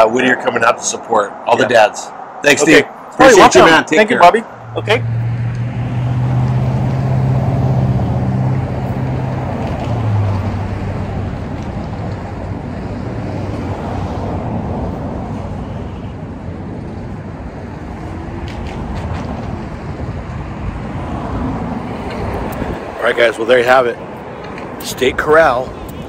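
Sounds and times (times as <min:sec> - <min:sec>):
traffic noise: 0:00.0 - 0:26.0
vehicle engine hum: 0:04.4 - 0:26.0.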